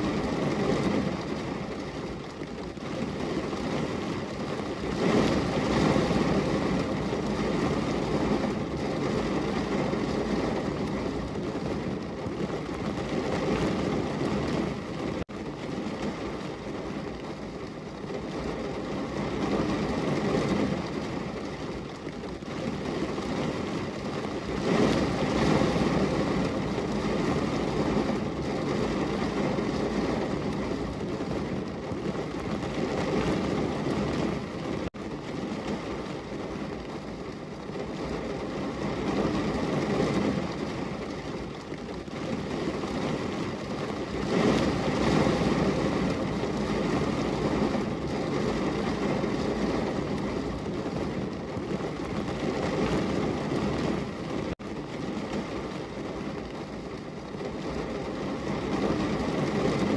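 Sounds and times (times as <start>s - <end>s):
heavy rain on a window: 0.0s - 59.9s.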